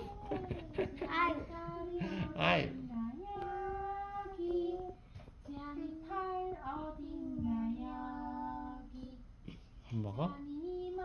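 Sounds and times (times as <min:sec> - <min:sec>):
child singing wordlessly: 0:00.0 - 0:09.3, 0:10.2 - 0:11.0.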